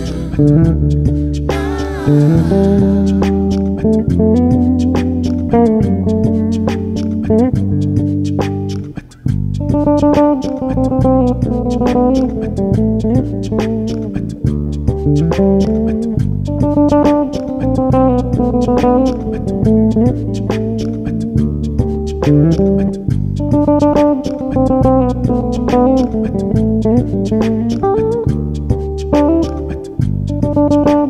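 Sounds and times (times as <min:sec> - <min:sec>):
electric bass guitar plucked: 0:00.0 - 0:31.0.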